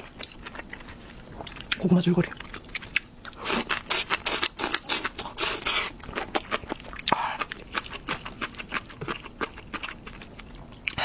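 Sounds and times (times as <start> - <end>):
chewing and mouth noises: 0.4 - 11.0.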